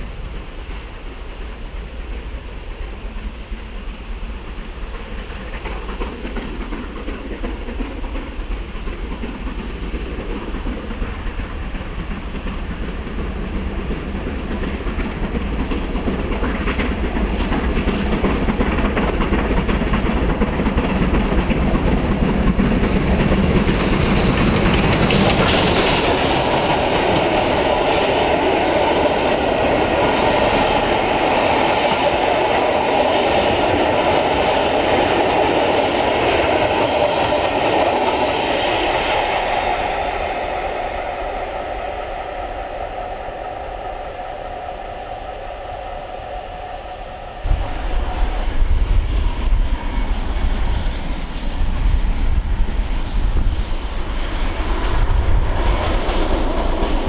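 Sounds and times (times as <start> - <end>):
steam locomotive working hard: 0.0 - 57.0.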